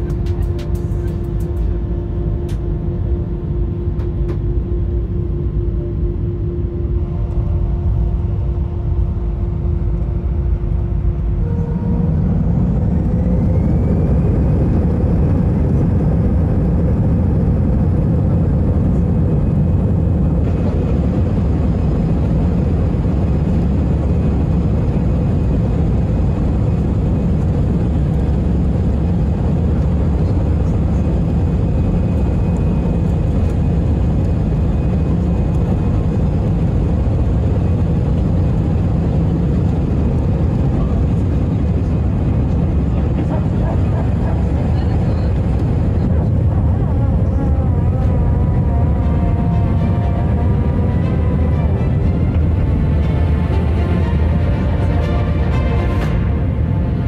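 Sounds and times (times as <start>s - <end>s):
jet engines spooling up and roaring: 0.0s - 57.0s.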